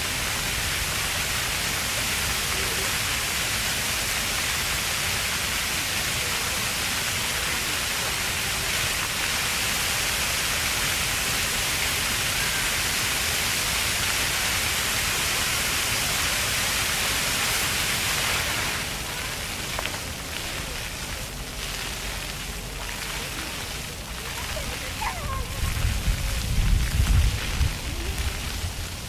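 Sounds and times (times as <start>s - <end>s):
fountain water jets splashing: 0.0s - 29.0s.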